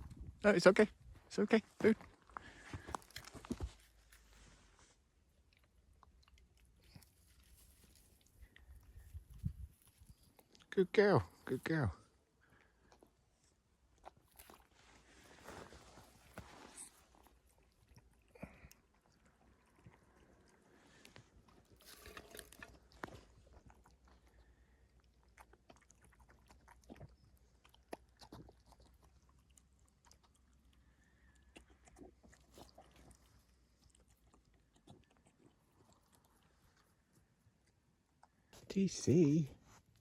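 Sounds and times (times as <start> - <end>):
dogs chewing food: 2.0 - 10.7, 11.3 - 38.9.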